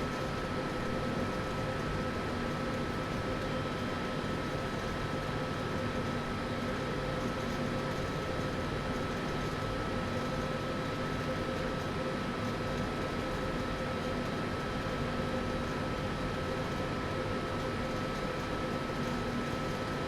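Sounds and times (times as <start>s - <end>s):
machinery and ventilation hum: 0.0s - 20.0s.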